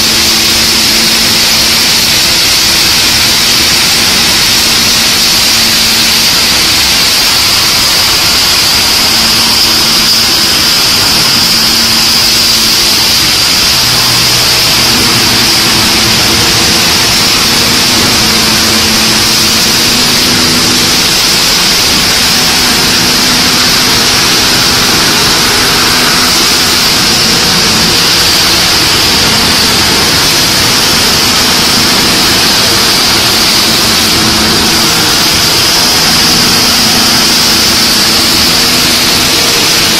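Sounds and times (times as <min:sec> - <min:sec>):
high hiss of machinery: 0:00.0 - 0:39.9.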